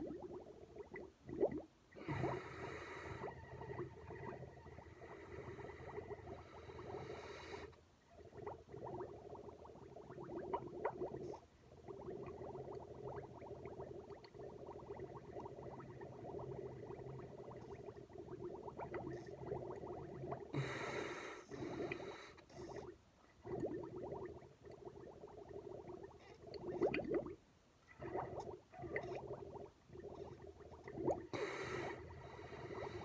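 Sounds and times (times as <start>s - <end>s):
bubbling through a straw: 0.0s - 33.0s.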